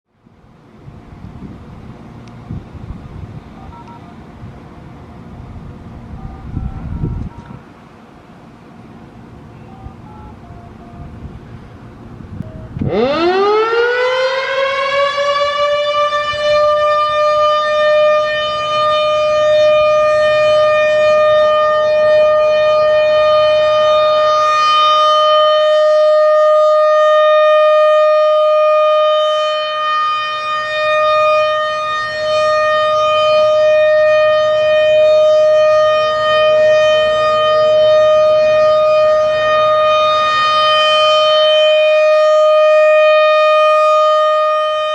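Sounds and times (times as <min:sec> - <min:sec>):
warning siren wailing: 0:03.4 - 0:04.4, 0:05.8 - 0:07.6, 0:09.6 - 0:11.7, 0:12.3 - 0:44.9.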